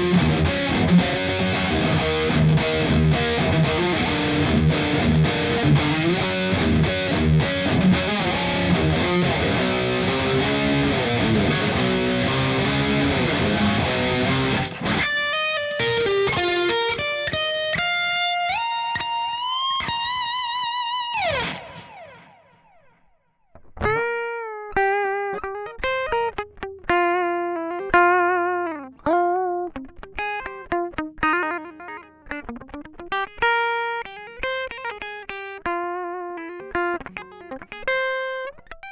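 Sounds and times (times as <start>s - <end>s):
distorted electric guitar: 0.0s - 38.9s
plucked clean guitar notes: 0.0s - 38.9s.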